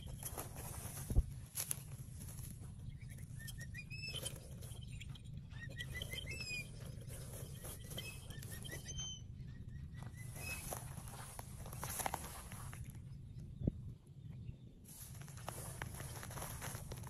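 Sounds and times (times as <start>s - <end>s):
faint rustling: 0.0s - 8.9s, 10.0s - 13.0s, 14.9s - 17.0s
bird chirping: 0.0s - 17.0s.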